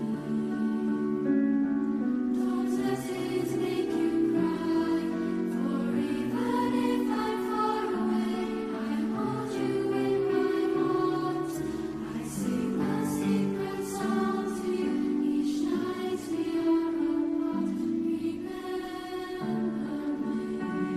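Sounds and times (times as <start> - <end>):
youth choir singing in harmony: 0.0 - 20.9.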